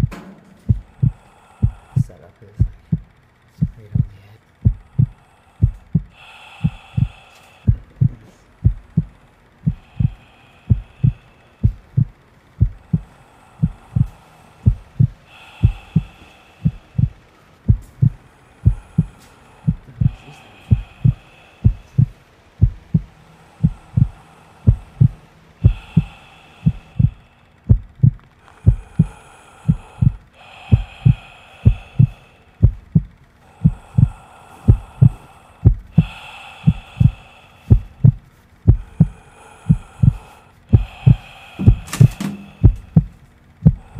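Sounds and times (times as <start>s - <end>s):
low double thumps heartbeat: 0.0s - 43.9s.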